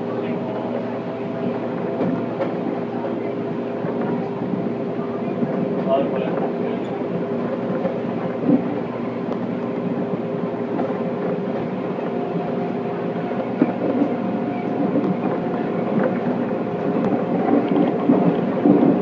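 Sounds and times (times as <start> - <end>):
electric train running hum: 0.0 - 19.0
rail clicks: 0.0 - 19.0.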